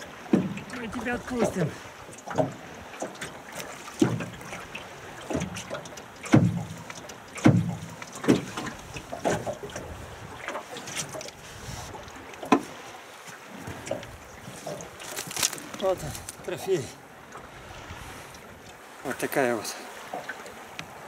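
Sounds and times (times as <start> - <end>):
wash of water and wind: 0.0 - 21.0
waves slapping boat hull: 0.0 - 21.0.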